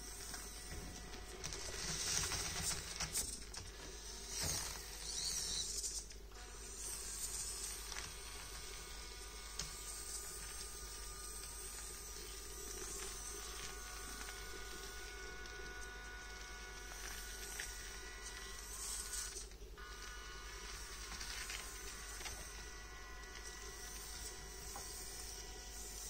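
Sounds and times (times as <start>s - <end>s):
small gear motor whining: 0.0s - 26.0s.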